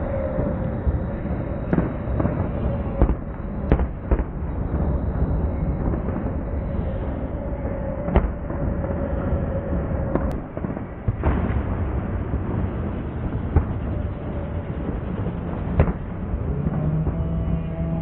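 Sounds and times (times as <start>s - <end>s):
continuous din of fireworks: 0.0s - 18.0s
fireworks bangs: 0.0s - 18.0s.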